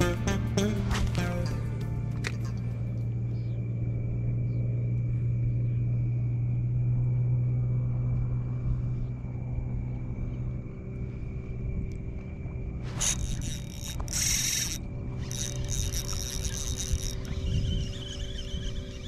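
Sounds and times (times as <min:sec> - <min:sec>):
high whine: 0:00.0 - 0:19.0
low motor hum: 0:00.0 - 0:19.0.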